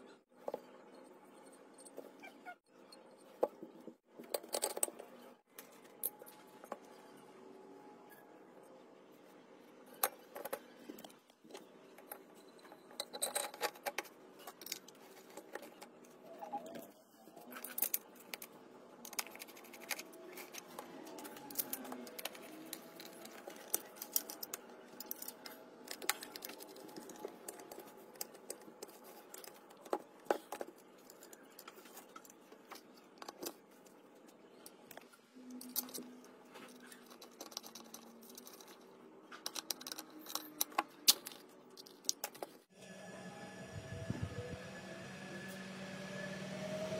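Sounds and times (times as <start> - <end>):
metal parts clicking and scraping: 0.4 - 6.9, 9.9 - 42.6.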